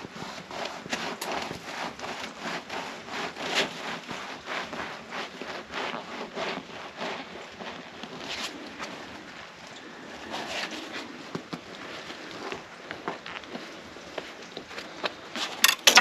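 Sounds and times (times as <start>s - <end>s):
footsteps crunching in snow: 0.0s - 15.6s.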